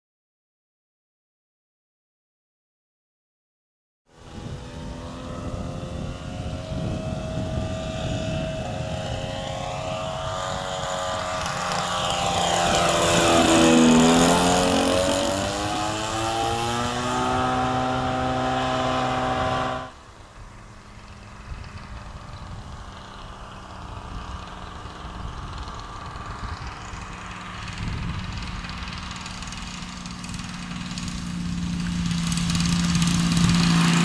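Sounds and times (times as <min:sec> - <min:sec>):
model plane engine flying past: 0:04.1 - 0:34.0.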